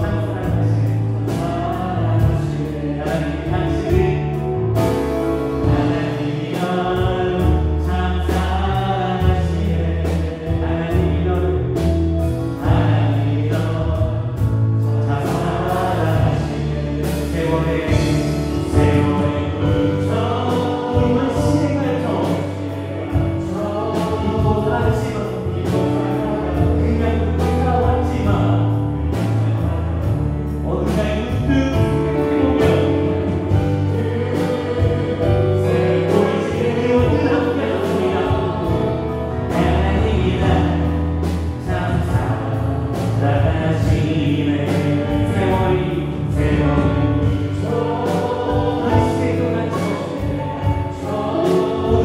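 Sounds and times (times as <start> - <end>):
voices singing along: 0.0 - 52.0
worship band playing: 0.0 - 52.0.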